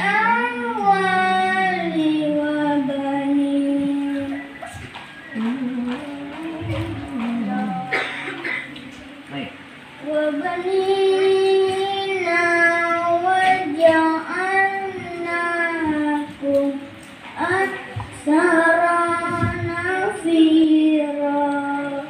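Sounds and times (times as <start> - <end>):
boy reciting melodically: 0.0 - 22.0.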